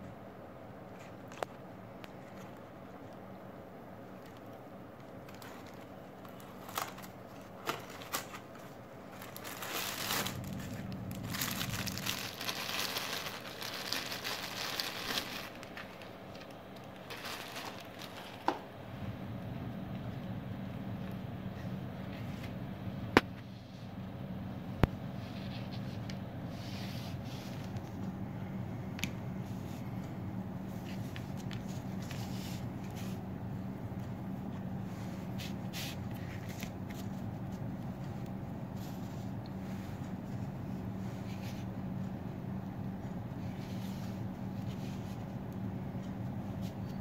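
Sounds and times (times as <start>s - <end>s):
low hum: 0.1s - 47.0s.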